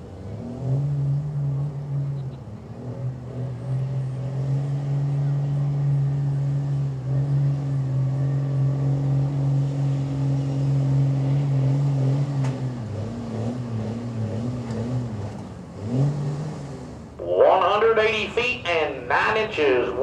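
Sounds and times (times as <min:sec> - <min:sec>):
truck engine at full throttle: 0:00.0 - 0:20.0.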